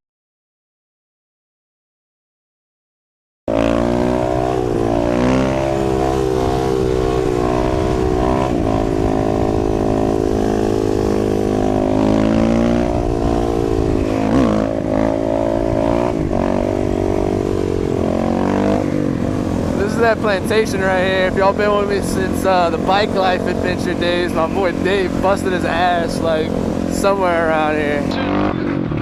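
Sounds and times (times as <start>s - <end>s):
dirt bike engine revving: 3.5s - 29.0s
wind noise: 3.8s - 29.0s.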